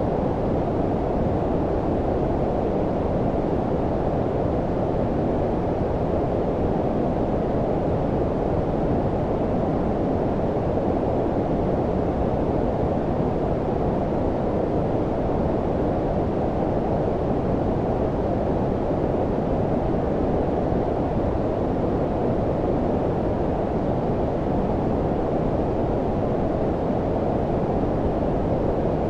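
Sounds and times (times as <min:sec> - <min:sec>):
brown noise rumbling hiss: 0:00.0 - 0:29.0.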